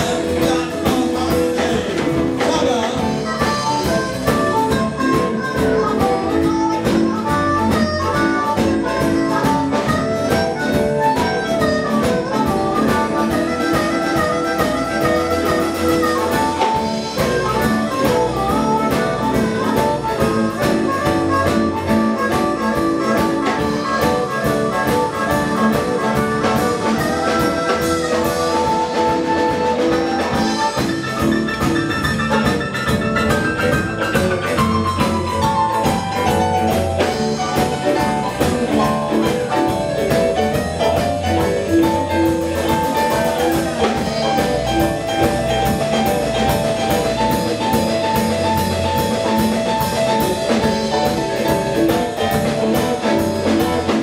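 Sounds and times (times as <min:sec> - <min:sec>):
blues band playing instrumental: 0:00.0 - 0:54.0.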